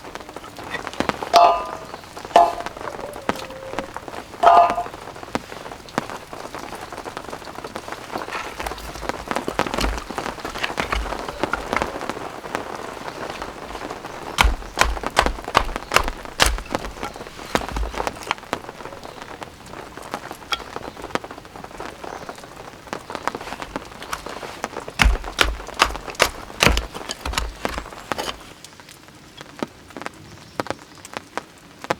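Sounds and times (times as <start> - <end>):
raindrops tapping close by: 0.0 - 28.8
rain falling: 0.0 - 31.9.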